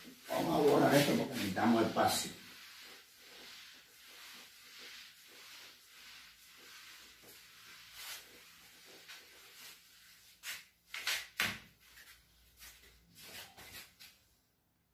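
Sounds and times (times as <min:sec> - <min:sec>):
eraser scrubbing whiteboard: 0:00.0 - 0:14.2.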